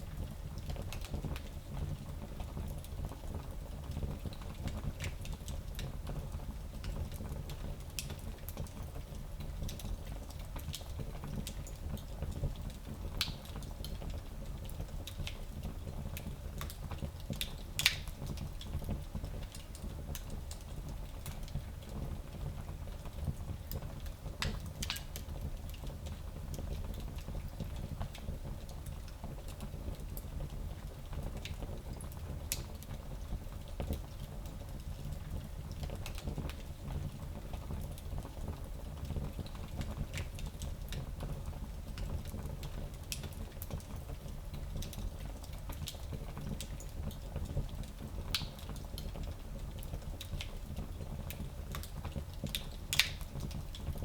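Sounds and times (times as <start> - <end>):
fire crackling in a fireplace: 0.0 - 54.0.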